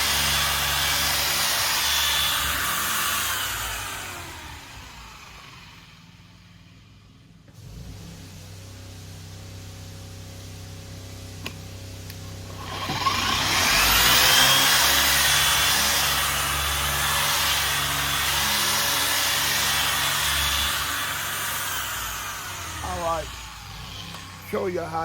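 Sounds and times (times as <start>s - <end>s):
electric car polisher whining: 0.0s - 6.9s, 11.4s - 25.0s.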